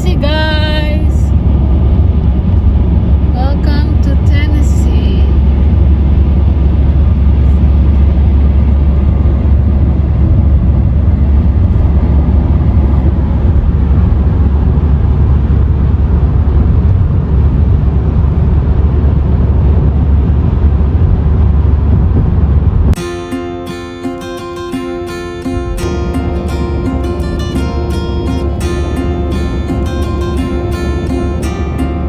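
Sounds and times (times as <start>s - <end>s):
road and wind noise: 0.0s - 32.0s.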